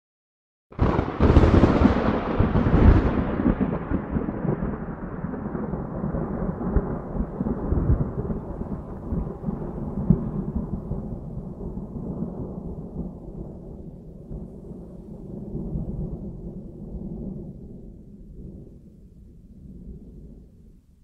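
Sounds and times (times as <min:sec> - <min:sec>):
sharp thunder cracks: 0:00.7 - 0:18.8
thunder rumbling: 0:00.7 - 0:20.9.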